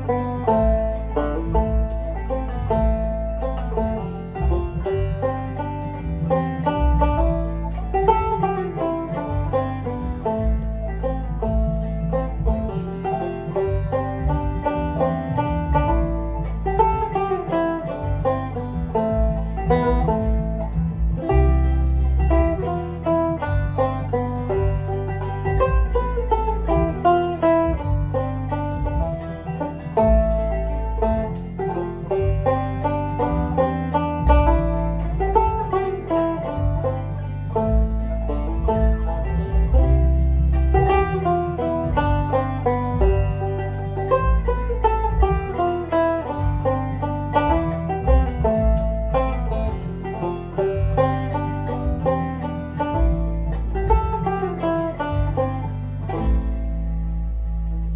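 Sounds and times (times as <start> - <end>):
backing track bass line: 0.0 - 57.9
banjo plucked melody: 0.0 - 57.9.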